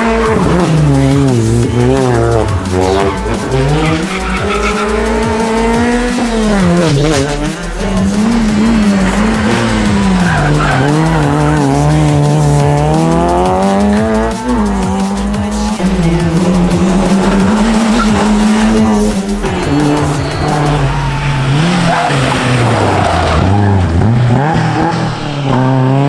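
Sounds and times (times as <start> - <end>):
tyres squealing and skidding: 0.0 - 13.5, 16.6 - 26.0
rally car engine revving: 0.0 - 26.0.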